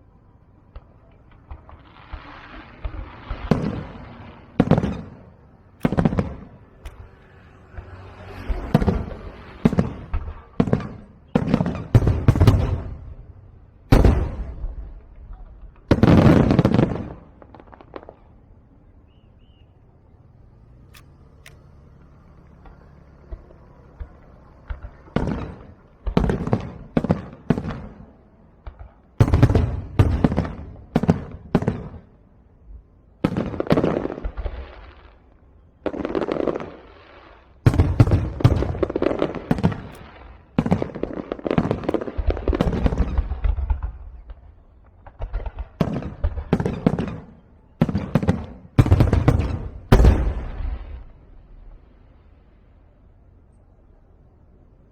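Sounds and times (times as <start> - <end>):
fireworks bangs: 0.0 - 52.2.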